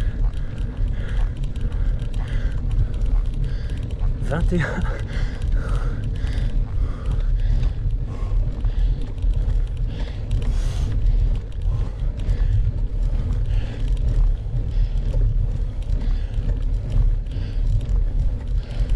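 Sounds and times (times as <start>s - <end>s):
heavy breathing: 0.0s - 18.9s
tyre-on-road rumble: 0.0s - 18.9s
wind buffeting microphone: 0.0s - 18.9s.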